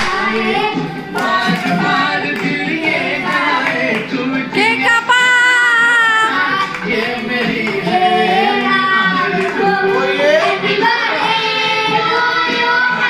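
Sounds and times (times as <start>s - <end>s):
high voice singing: 0.0s - 13.0s
music: 0.0s - 13.0s.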